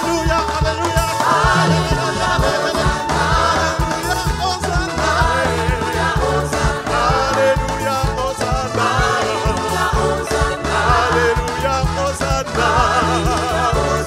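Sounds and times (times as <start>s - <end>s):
band with steady drum beat: 0.0s - 14.0s
singer and choir singing: 0.0s - 14.0s.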